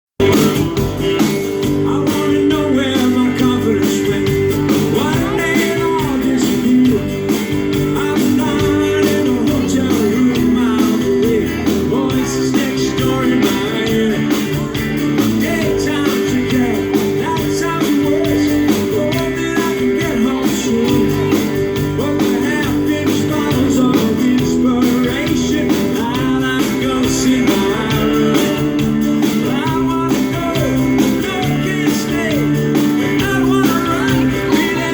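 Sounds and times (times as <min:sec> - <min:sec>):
live rock and roll music: 0:00.2 - 0:34.9.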